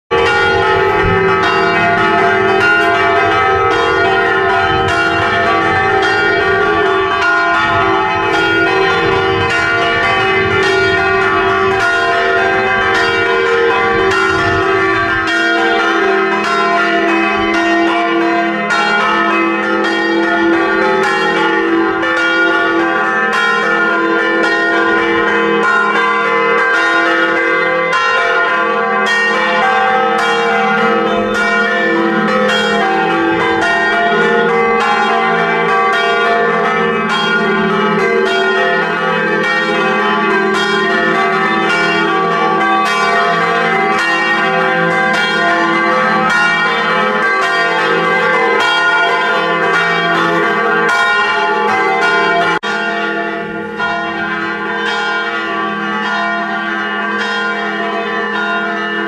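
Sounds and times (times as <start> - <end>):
church bells pealing: 0.1 - 59.0.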